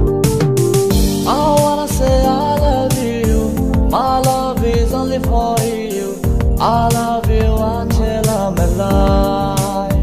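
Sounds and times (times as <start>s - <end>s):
steady drum beat: 0.0s - 10.0s.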